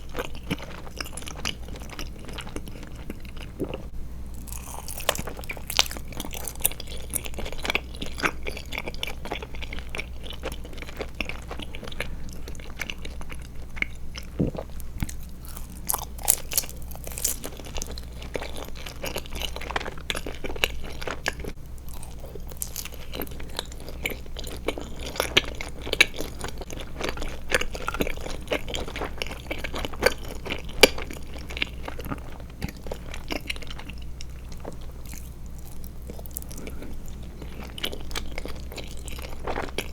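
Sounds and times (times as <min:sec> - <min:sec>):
chewing crunchy gummy candy: 0:00.0 - 0:39.9.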